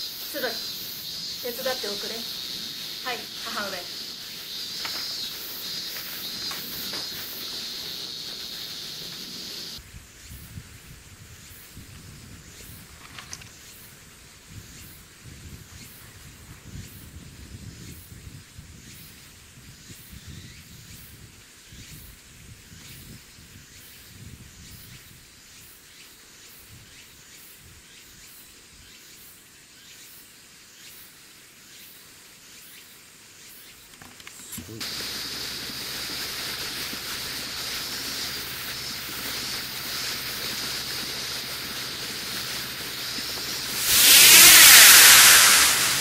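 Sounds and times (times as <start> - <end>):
faint outdoor background noise: 0.0 - 46.0
steady hiss: 0.0 - 46.0.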